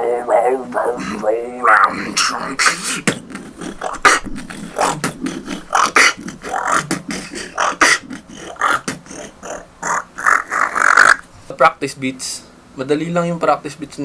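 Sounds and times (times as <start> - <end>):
beatboxing mouth percussion: 0.0 - 11.3.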